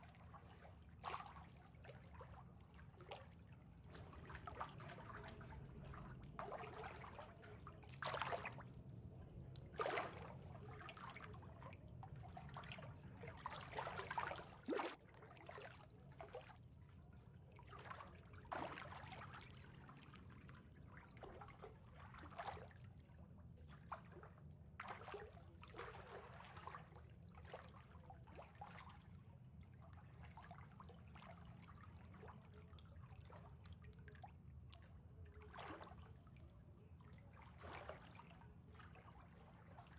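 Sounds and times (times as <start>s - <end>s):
water trickling and lapping: 0.0s - 39.9s.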